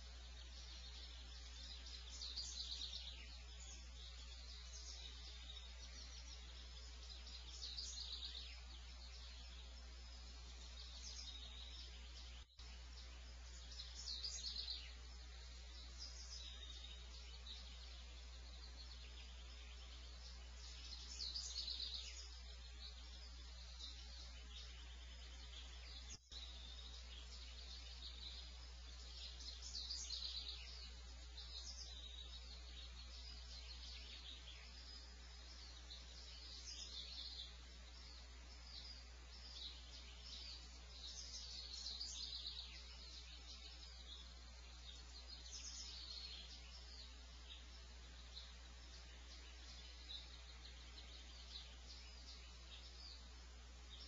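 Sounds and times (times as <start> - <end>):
small bird singing: 0.0 - 54.0.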